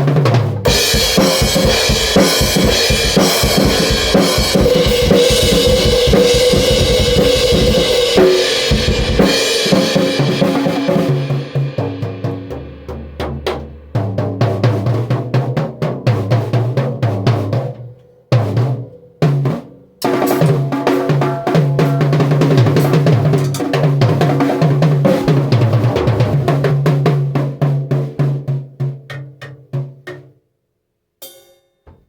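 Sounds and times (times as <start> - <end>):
drum kit played fast: 0.0 - 30.3.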